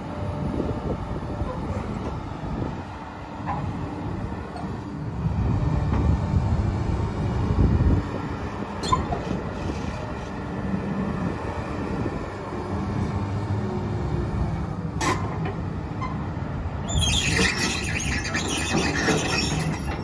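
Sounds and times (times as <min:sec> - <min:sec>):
excavator diesel engine rumbling: 0:00.0 - 0:20.0.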